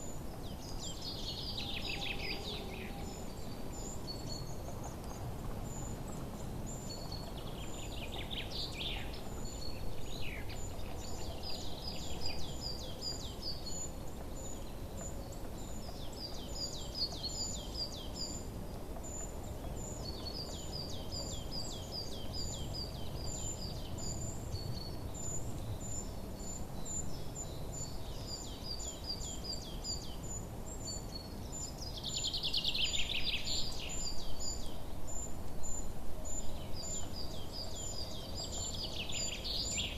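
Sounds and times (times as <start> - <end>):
low outdoor background noise: 0.0 - 39.9.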